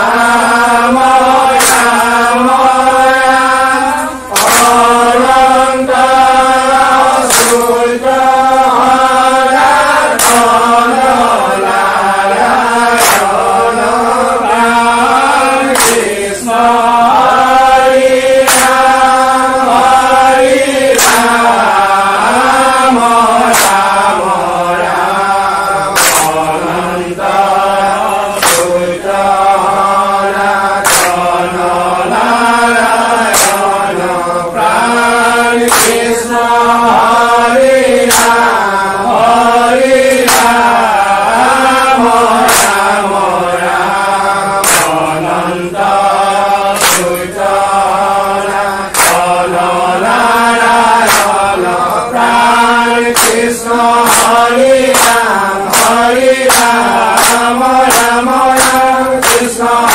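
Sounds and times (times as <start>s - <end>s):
men chanting in unison: 0.0s - 59.9s
sharp hand claps: 0.0s - 59.9s.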